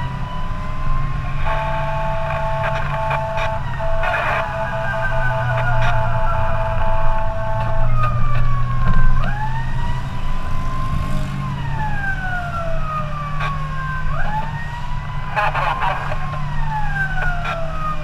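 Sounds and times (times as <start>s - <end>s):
emergency siren wailing: 0.0s - 18.0s
engine and tyre hum: 0.0s - 18.0s.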